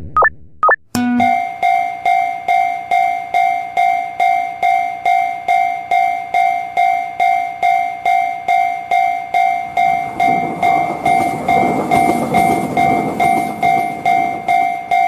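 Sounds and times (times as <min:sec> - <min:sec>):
railroad crossing bell ringing: 0:01.1 - 0:15.0
passing train rumble: 0:01.7 - 0:15.0.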